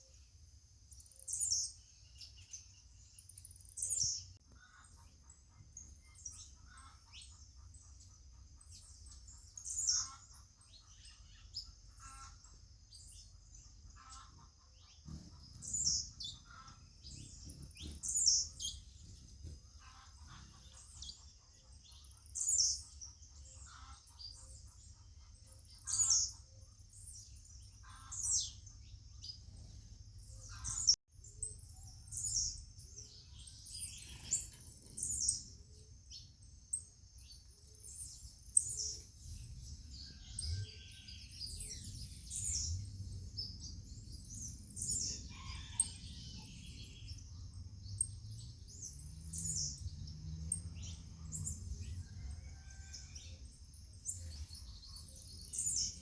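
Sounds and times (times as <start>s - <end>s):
birds chirping: 0.9s - 56.0s.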